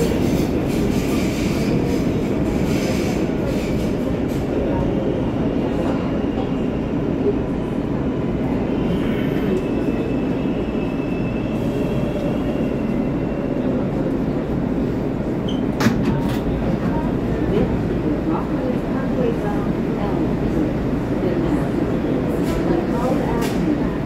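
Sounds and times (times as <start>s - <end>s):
subway car rumbling on track: 0.0s - 24.0s.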